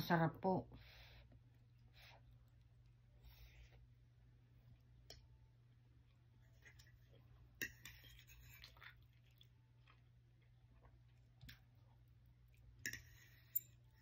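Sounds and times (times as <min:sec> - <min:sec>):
faint chewing: 0:01.2 - 0:14.0.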